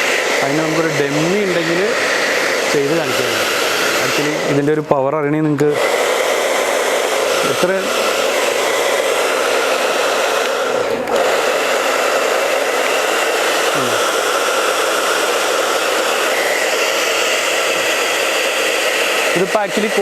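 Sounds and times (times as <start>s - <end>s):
hair dryer blowing air: 0.0s - 20.0s.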